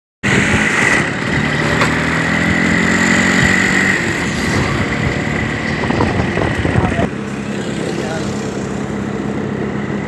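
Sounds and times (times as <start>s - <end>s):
road noise: 0.2s - 10.0s
vehicle engine running: 0.2s - 10.0s.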